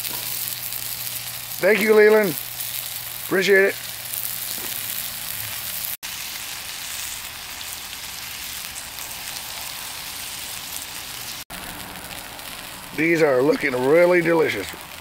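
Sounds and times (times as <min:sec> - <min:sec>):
meat patties sizzling on a griddle: 0:00.0 - 0:15.0.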